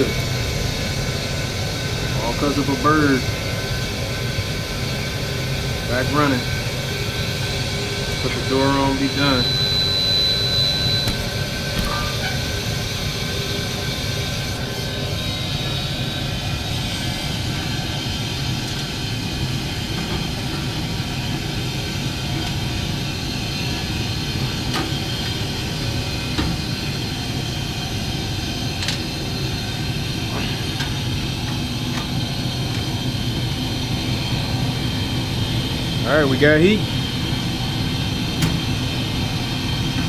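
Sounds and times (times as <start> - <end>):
furnace humming with air rush: 0.0 - 40.0.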